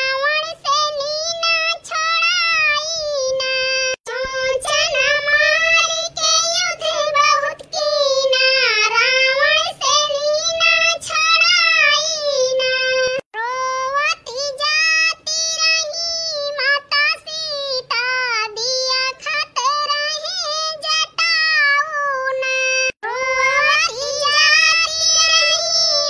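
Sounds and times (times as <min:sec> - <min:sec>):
high-pitched voice singing: 0:00.0 - 0:26.0.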